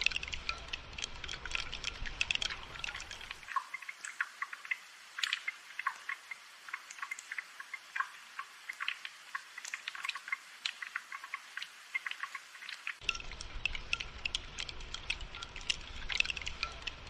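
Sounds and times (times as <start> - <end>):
light rain: 0.0 - 17.0.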